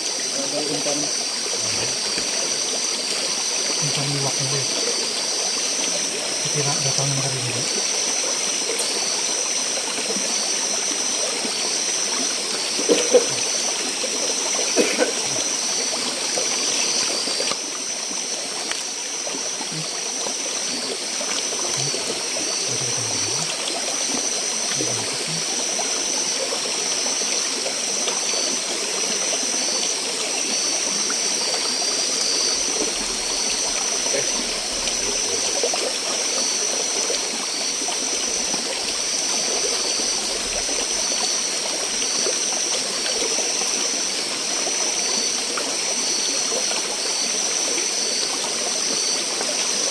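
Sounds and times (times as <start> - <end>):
flowing stream: 0.0 - 49.9.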